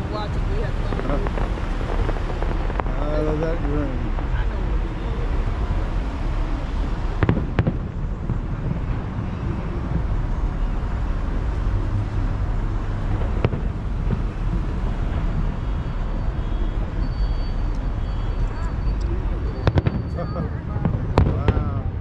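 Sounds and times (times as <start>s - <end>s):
fireworks cracks: 0.0s - 17.2s, 19.5s - 22.0s
low rumble: 0.0s - 22.0s.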